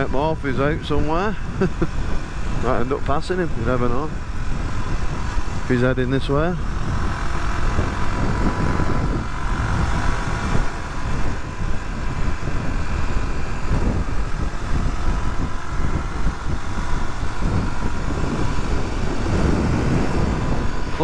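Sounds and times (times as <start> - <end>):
motorcycle engine running: 0.0 - 21.0
riding noise rush: 0.0 - 21.0.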